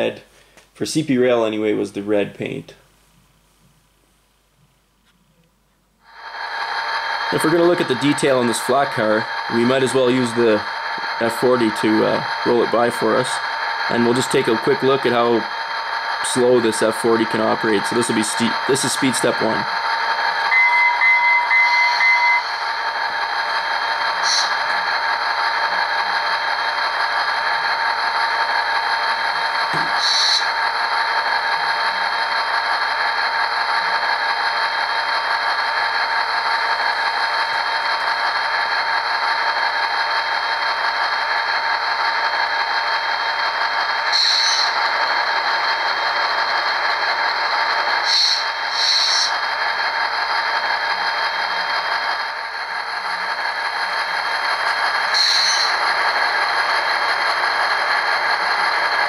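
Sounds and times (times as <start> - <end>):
diesel engine sound through small speaker: 6.0 - 59.0.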